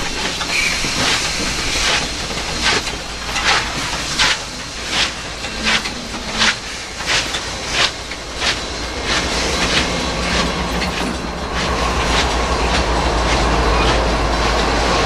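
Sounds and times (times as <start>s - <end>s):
diesel locomotive engine drone: 0.0s - 15.0s
train cars rolling on rails: 0.0s - 15.0s.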